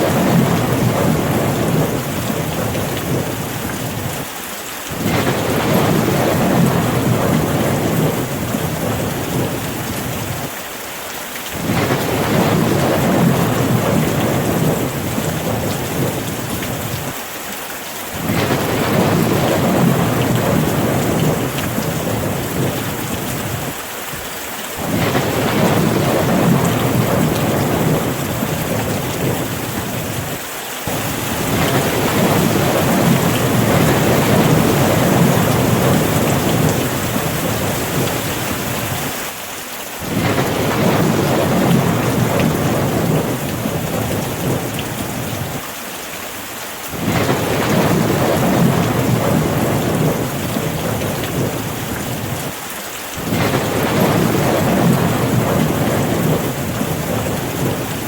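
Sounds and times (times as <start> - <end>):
rolling thunder rumble: 0.0 - 4.2, 4.9 - 10.5, 11.6 - 17.2, 18.2 - 23.8, 24.8 - 39.2, 40.0 - 45.6, 47.0 - 52.6, 53.2 - 58.0
steady rain hiss: 0.0 - 58.0.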